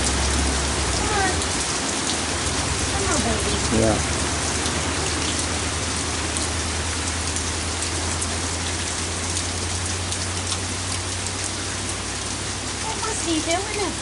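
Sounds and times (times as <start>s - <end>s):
heavy rain on a wooden deck: 0.0s - 14.0s.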